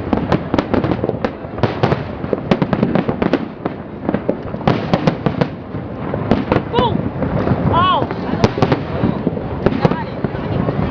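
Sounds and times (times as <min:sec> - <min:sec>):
fireworks bangs and crackles: 0:00.0 - 0:10.9.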